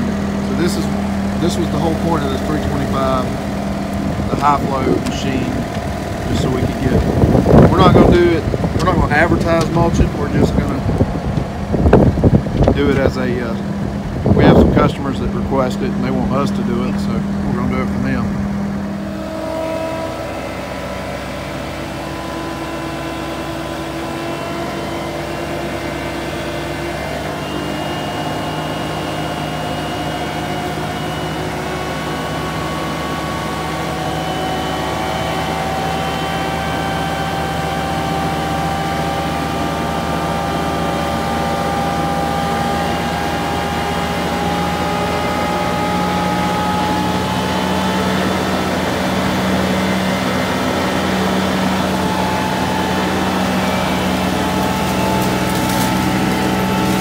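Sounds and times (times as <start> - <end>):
loader engine droning: 0.0 - 57.0
mulcher head whine: 0.0 - 57.0.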